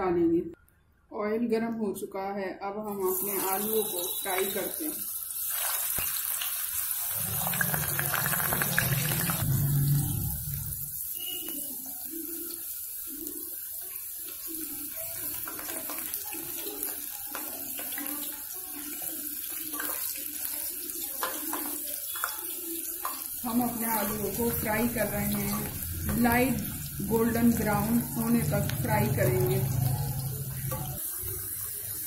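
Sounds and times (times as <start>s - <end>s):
potatoes sizzling in hot oil: 2.9s - 32.0s.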